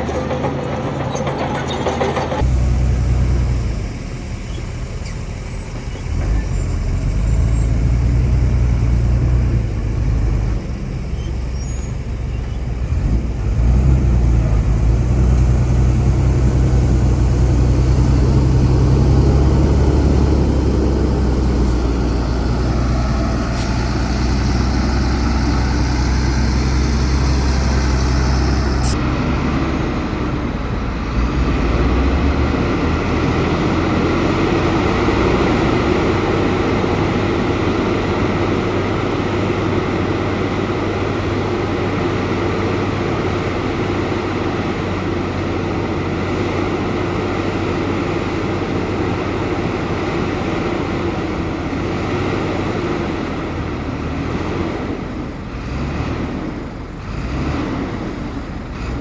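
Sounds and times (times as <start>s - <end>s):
heavy diesel engines droning: 0.0s - 59.0s.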